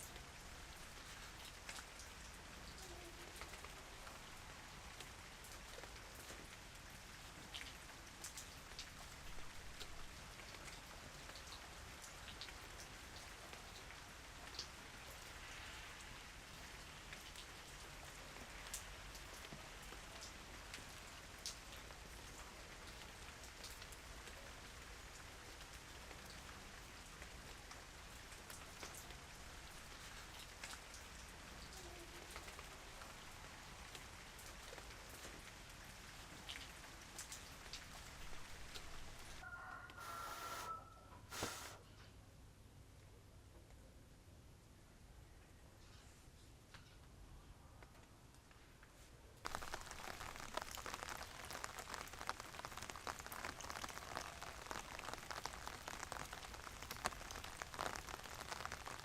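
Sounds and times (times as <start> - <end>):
raindrops ticking on a surface: 0.0 - 40.8, 47.8 - 59.0
light rain hiss: 0.0 - 59.0.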